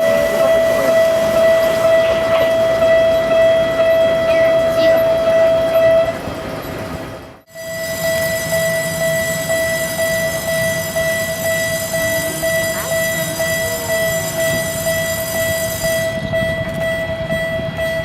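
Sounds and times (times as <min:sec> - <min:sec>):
electric locomotive high-pitched whine: 0:00.0 - 0:18.0.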